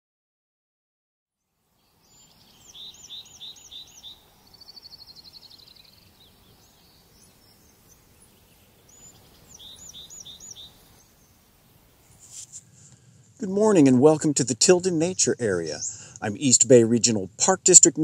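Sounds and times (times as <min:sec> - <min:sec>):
songbird singing: 0:01.4 - 0:18.0
woodland ambience hiss: 0:01.4 - 0:18.0.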